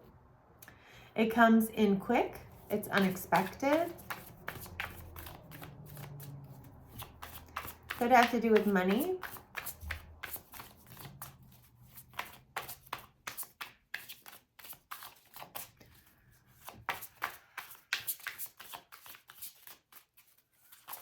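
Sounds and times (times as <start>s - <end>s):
cards being shuffled: 2.7s - 21.0s.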